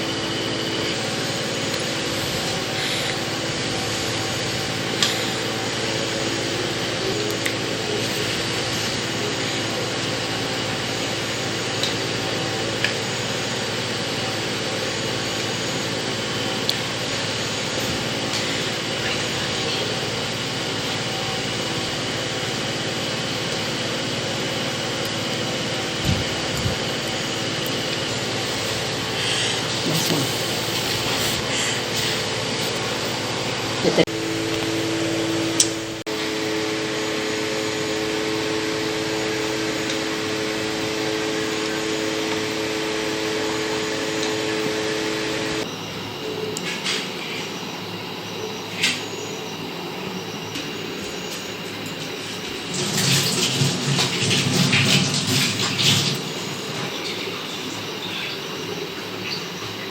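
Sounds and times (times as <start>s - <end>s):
mechanical hum with hiss: 0.0s - 59.9s.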